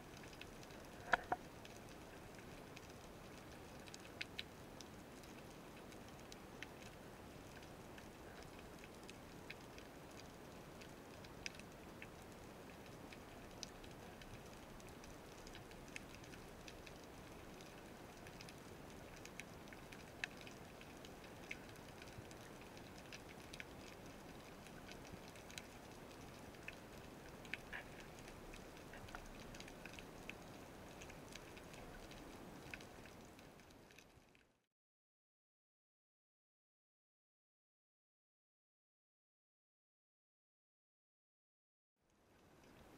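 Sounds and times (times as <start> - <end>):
sharp underwater clicks and crackles: 0.0 - 34.6, 42.3 - 42.9.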